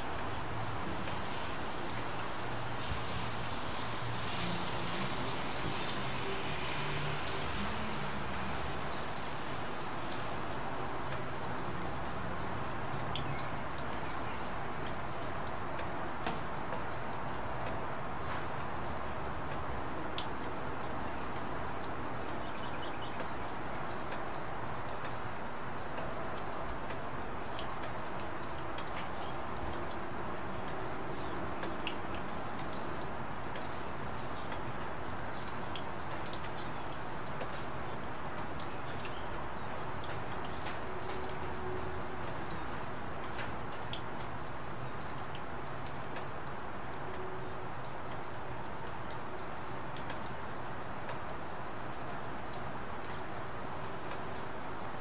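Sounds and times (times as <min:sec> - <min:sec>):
raindrops tapping surfaces: 0:00.0 - 0:55.0
steady rain hiss: 0:00.0 - 0:55.0.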